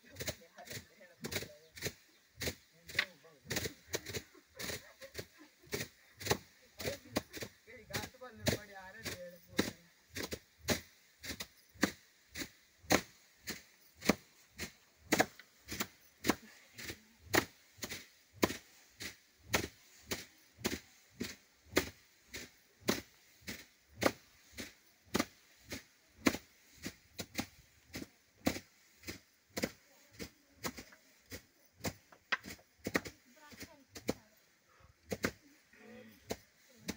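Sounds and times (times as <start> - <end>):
sticks thwacking on straw: 0.1 - 35.6, 36.2 - 36.9.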